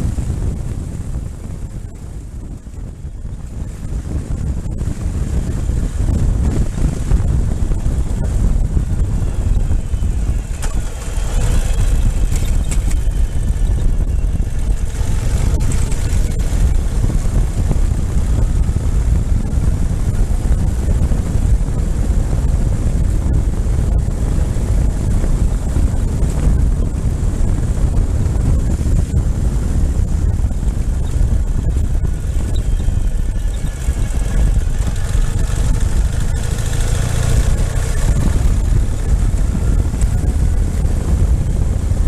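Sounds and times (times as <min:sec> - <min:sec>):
faint engine whine: 0:00.0 - 0:42.0
motorcycle running: 0:00.0 - 0:42.0
wind buffeting microphone: 0:00.0 - 0:42.0.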